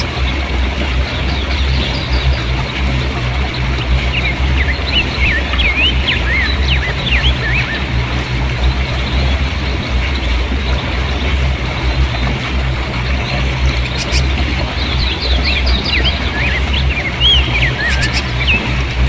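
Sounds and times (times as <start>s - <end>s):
river water rushing over rocks: 0.0s - 19.0s
small birds twittering: 0.0s - 19.0s.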